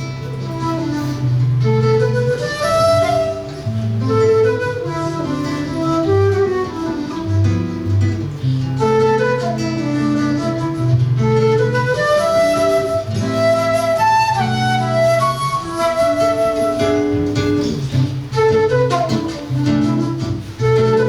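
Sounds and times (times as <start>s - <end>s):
flute melody: 0.0s - 21.0s
guitar accompaniment: 0.0s - 21.0s.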